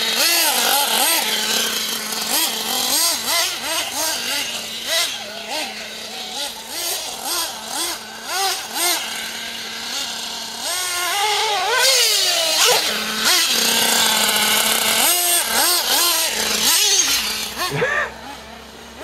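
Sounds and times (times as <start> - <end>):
model car engine revving: 0.0 - 19.0.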